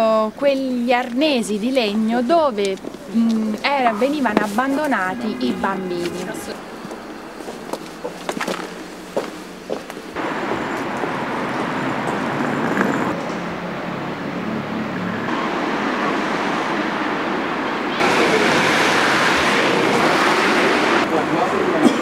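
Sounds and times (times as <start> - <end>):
passing cars rushing: 3.7 - 21.8.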